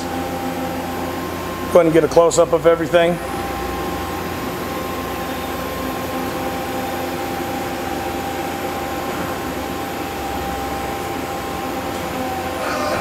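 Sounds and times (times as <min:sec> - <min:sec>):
machinery hum with whining tones: 0:00.0 - 0:13.0.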